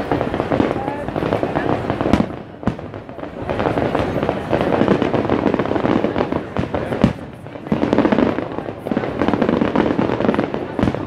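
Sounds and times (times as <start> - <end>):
firework bang: 0.0 - 11.0
fireworks crackling and popping: 0.0 - 11.0.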